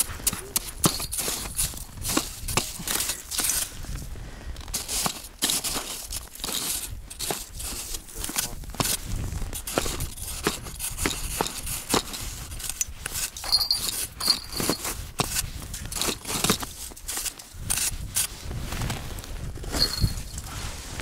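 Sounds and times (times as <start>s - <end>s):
ice scoop scraping snow and ice: 0.0s - 4.0s, 4.6s - 21.0s.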